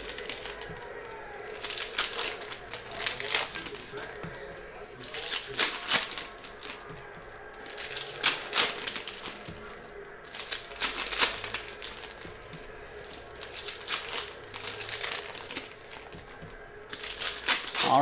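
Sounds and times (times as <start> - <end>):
cards being handled: 0.0 - 18.0
foil wrappers crinkling: 0.0 - 18.0.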